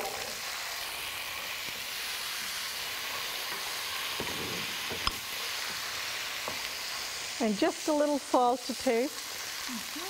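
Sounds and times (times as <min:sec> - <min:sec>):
chickpeas sizzling in hot oil: 0:00.0 - 0:10.0.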